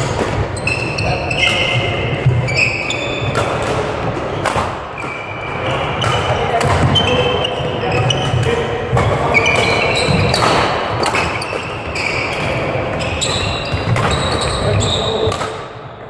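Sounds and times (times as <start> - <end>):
shoes squeaking on floor: 0.0 - 3.6, 4.3 - 15.3.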